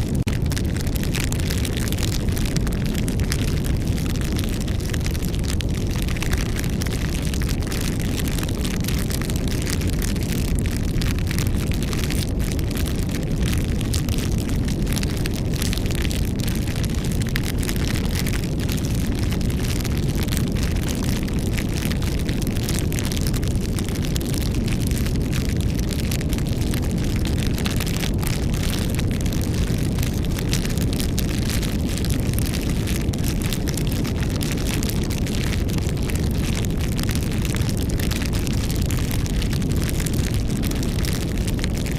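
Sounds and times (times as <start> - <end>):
fire crackles and pops: 0.0 - 41.9
low rumble of flames: 0.0 - 41.9.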